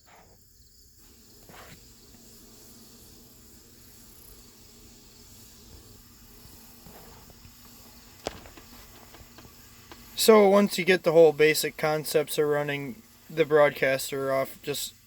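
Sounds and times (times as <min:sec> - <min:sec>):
high hiss: 0:00.0 - 0:15.0.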